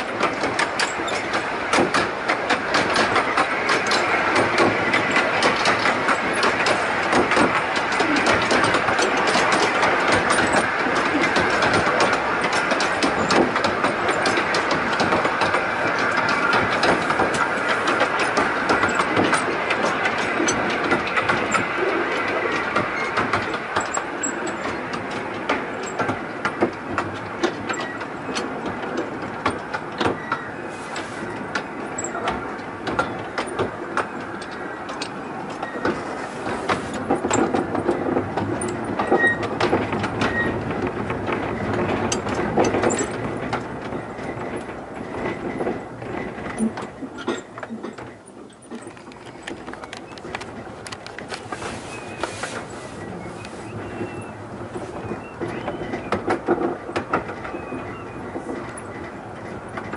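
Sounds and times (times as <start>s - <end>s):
train wheels rumbling and rattling: 0.0s - 59.9s
wheels clicking over rails: 0.0s - 59.9s.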